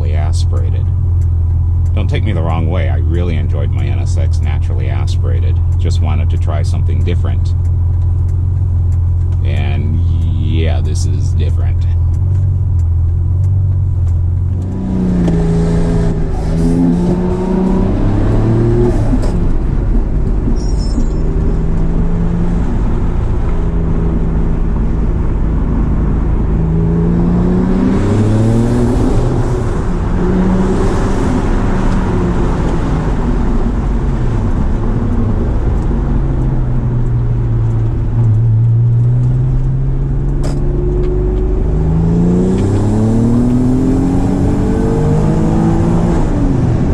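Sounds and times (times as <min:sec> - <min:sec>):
car engine accelerating: 0:00.0 - 0:46.9
road noise: 0:00.0 - 0:46.9.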